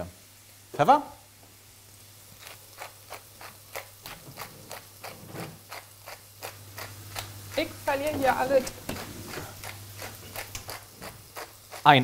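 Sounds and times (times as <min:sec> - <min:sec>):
pepper mill grinding: 0:02.3 - 0:12.0.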